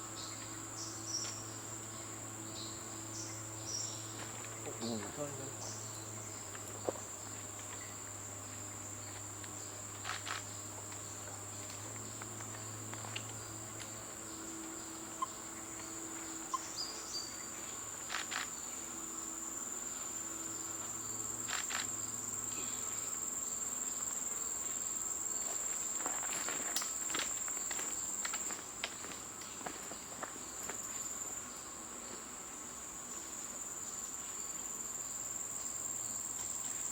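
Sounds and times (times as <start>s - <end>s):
insects chirring: 0.0s - 36.9s.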